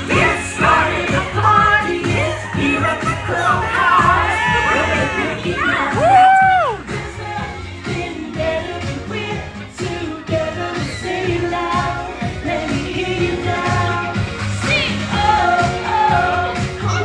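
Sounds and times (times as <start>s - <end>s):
upbeat pop song with singing: 0.0s - 17.0s.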